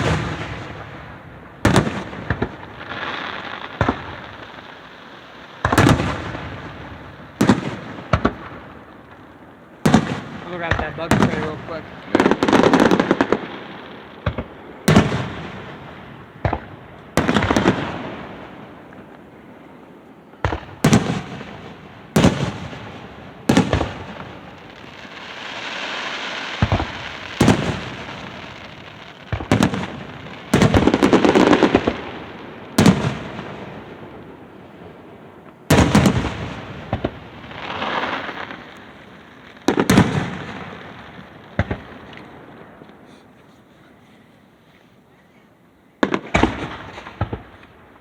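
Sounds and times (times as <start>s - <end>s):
fireworks bangs with echo: 0.0s - 43.3s, 46.0s - 48.0s
fireworks crackling hiss: 0.0s - 48.0s.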